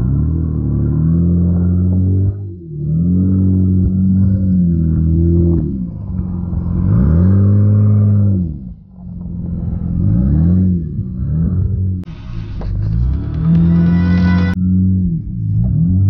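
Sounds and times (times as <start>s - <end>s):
engine revving under load: 0.0s - 16.0s.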